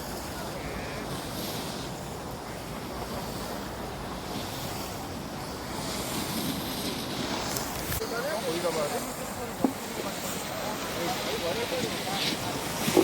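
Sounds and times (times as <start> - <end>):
skis sliding over snow: 0.0 - 13.0
wind on microphone: 0.0 - 13.0.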